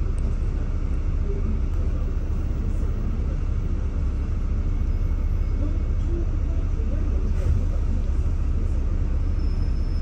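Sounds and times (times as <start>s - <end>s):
bus engine low rumble: 0.0s - 10.0s.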